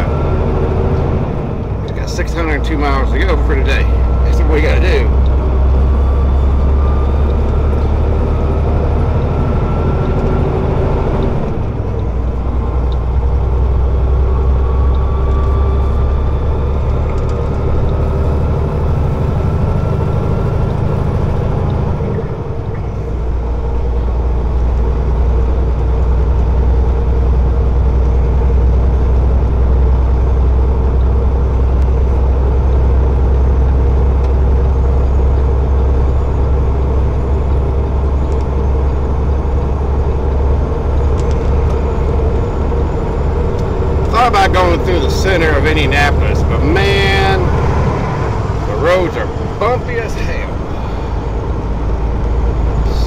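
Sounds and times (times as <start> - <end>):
engine whine rising in pitch: 0.0 - 53.0
truck diesel engine rumble: 0.0 - 53.0.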